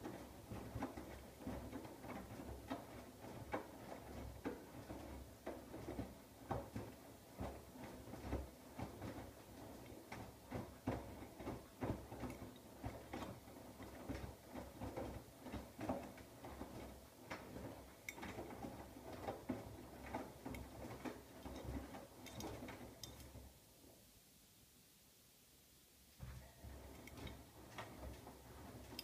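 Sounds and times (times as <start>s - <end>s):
laundry tumbling and sloshing: 0.0s - 23.9s, 26.2s - 29.0s
washing machine motor hum: 0.0s - 23.9s, 26.2s - 29.0s.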